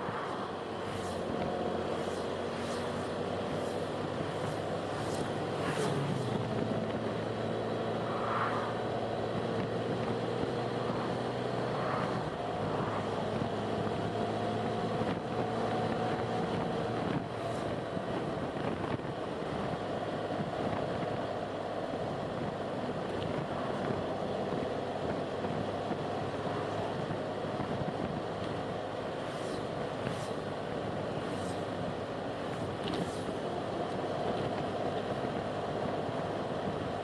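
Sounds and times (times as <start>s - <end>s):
motor vehicle running: 0.0s - 37.0s.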